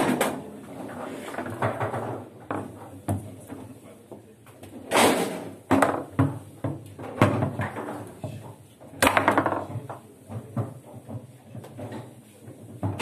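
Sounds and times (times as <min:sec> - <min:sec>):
foosball knocks and clacks: 0:01.2 - 0:03.6, 0:04.6 - 0:13.0.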